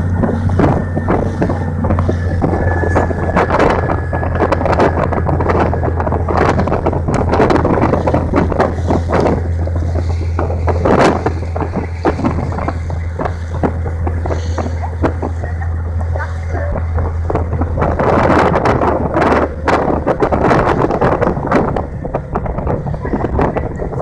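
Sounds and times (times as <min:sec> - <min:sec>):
motor boat engine drone: 0:00.0 - 0:24.0
wind buffeting microphone: 0:00.0 - 0:24.0.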